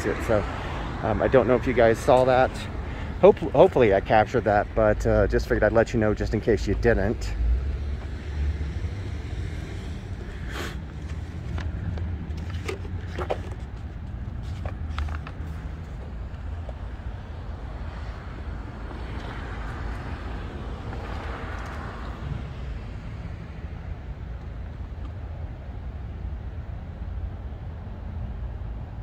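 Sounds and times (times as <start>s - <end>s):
car passing: 0.0s - 24.2s.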